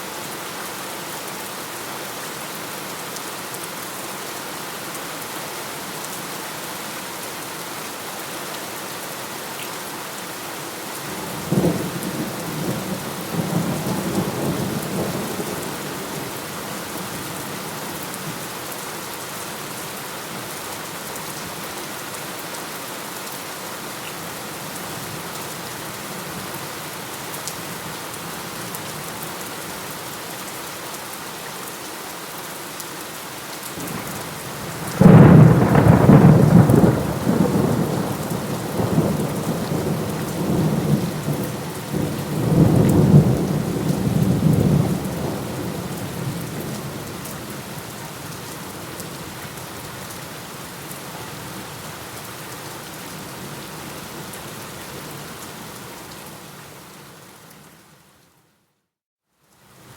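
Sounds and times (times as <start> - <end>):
heavy rain: 0.0 - 58.1.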